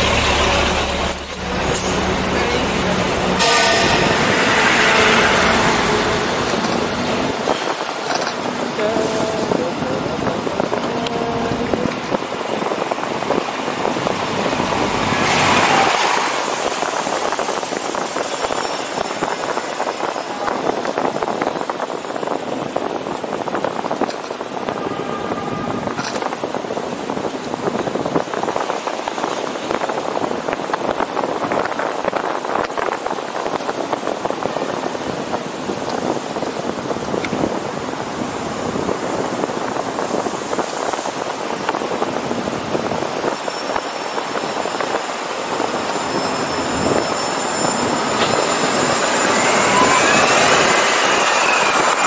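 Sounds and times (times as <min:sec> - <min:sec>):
passing cars and road noise: 0:00.0 - 0:52.0.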